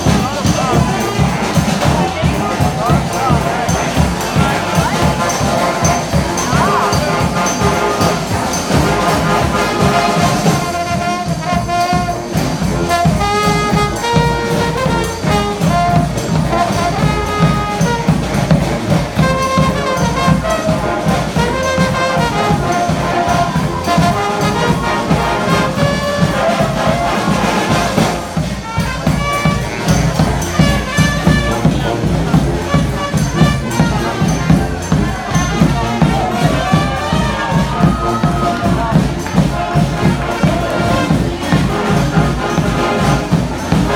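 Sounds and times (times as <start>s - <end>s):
brass horns playing melody: 0.0s - 43.9s
steady drum beat: 0.0s - 43.9s.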